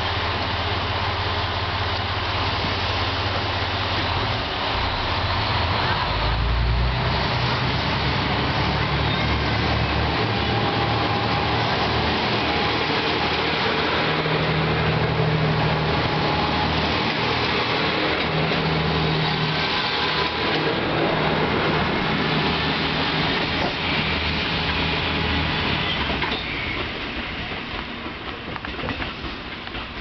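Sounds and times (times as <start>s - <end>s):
diesel train engines accelerating: 0.0s - 30.0s.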